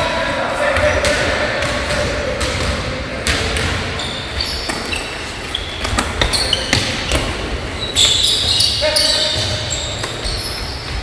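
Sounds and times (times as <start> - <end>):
basketball bouncing: 0.8 - 5.1, 5.7 - 11.0.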